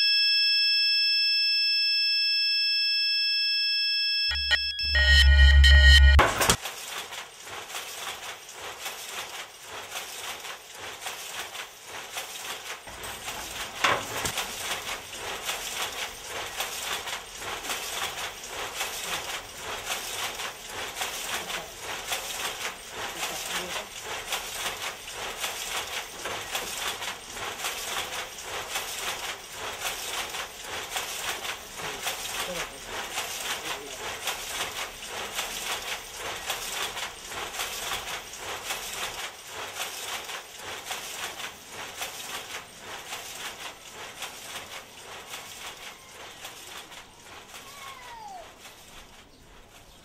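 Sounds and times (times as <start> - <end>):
water dripping and splashing: 6.6 - 50.0.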